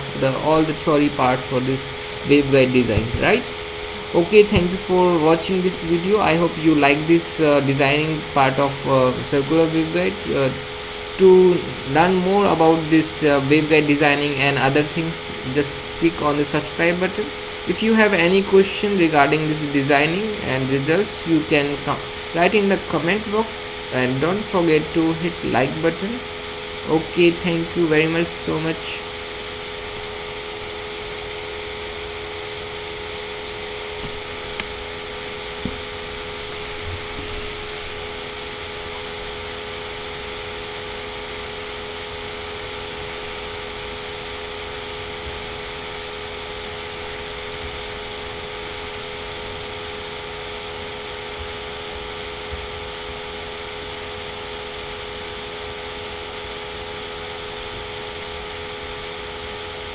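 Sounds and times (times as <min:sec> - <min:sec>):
background hum and hiss: 0:00.0 - 0:59.9.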